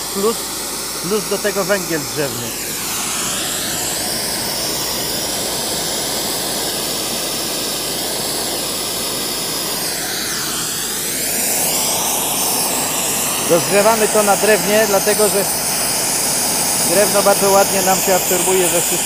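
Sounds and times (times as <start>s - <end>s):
gas torch hissing: 0.0s - 19.0s.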